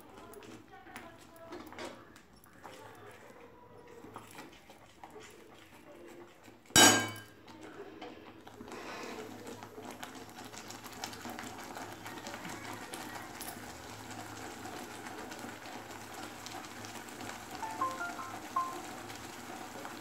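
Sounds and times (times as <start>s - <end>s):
thick food bubbling in a pan: 2.0s - 20.0s.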